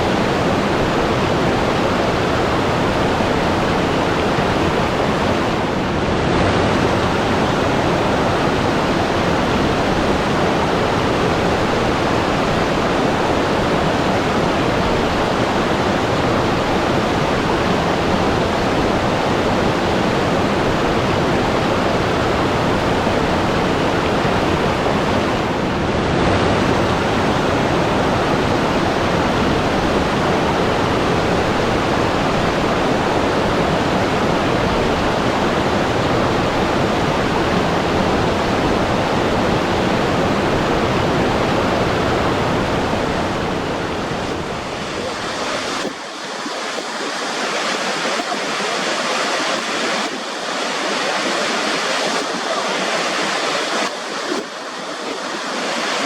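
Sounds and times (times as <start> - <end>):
loud rushing water: 0.0 - 56.0.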